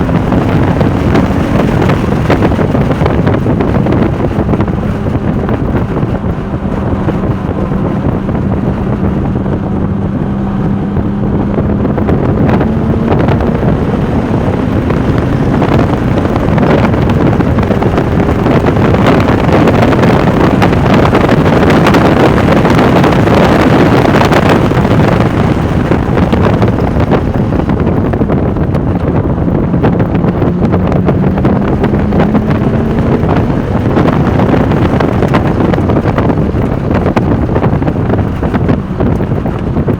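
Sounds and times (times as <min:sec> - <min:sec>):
car engine pulling at speed: 0:00.0 - 0:39.9
wind rush on microphone: 0:00.0 - 0:39.9.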